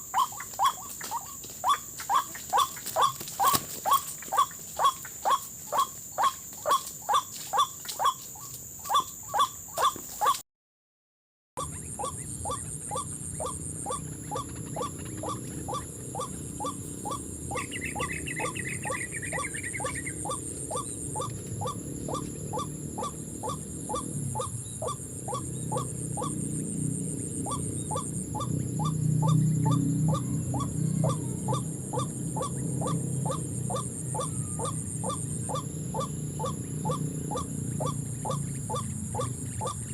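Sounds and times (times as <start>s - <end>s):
bird trilling: 0.0s - 10.4s, 11.6s - 39.9s
high insect-like whine: 0.0s - 10.4s, 11.6s - 39.9s
waterhen calls: 0.0s - 10.4s, 11.6s - 39.9s.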